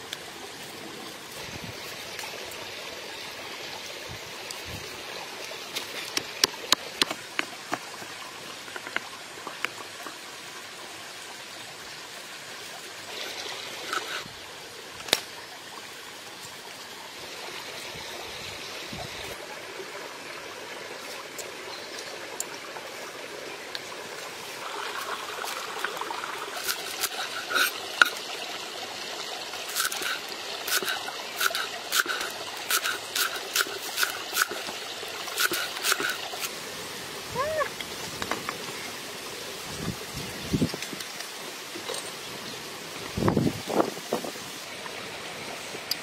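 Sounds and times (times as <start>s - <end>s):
running water trickle: 0.0s - 46.0s.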